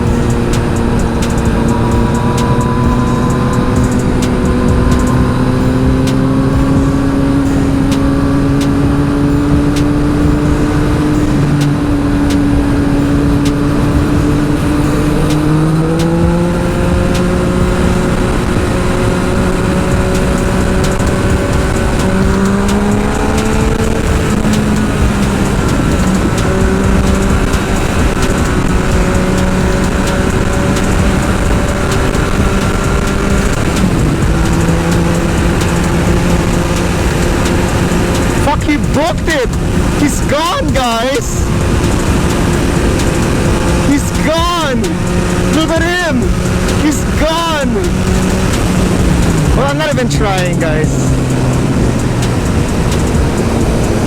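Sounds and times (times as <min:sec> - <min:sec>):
motorcycle engine running: 0:00.0 - 0:54.0
wind rushing: 0:00.0 - 0:54.0.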